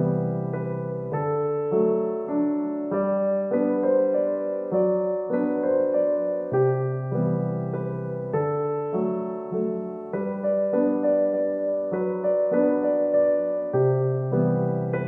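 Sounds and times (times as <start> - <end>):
gentle piano tune: 0.0 - 15.0.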